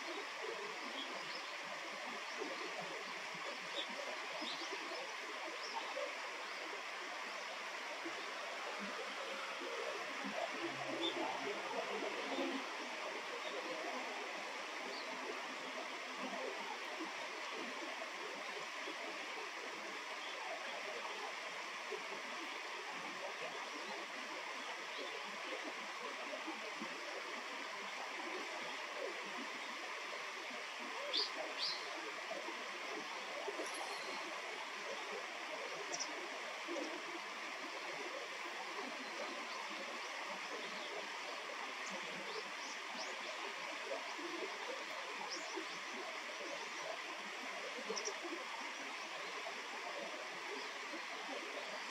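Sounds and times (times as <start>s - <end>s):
stream water flowing: 0.0s - 51.9s.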